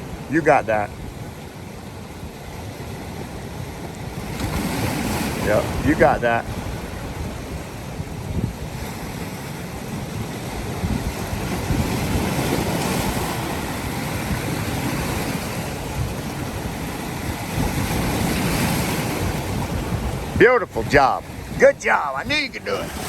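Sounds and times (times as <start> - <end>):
ocean surf washing ashore: 0.0 - 23.0
wind buffeting microphone: 0.0 - 23.0.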